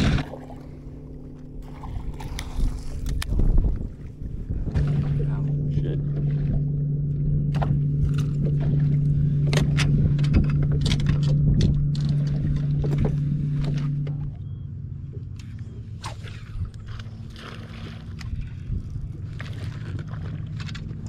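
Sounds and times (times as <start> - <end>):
low electric hum: 0.0 - 21.0.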